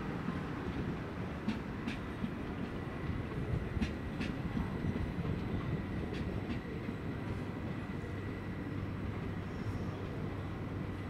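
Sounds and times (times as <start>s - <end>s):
train rumbling on tracks: 0.0s - 11.0s.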